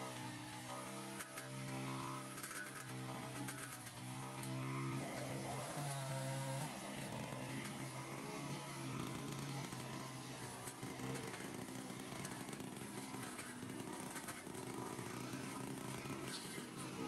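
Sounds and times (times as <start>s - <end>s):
chainsaw cutting branches: 0.0s - 17.0s
string trimmer cutting grass: 0.0s - 17.0s.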